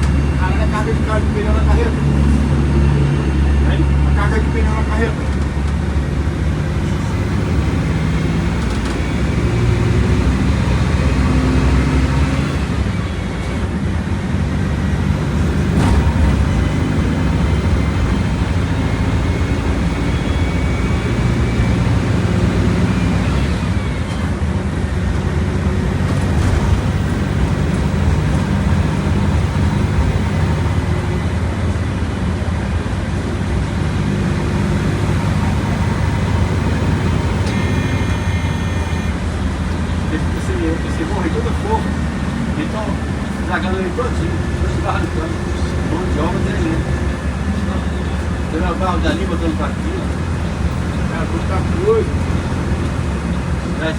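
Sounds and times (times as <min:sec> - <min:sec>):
bus engine drone: 0:00.0 - 0:53.9.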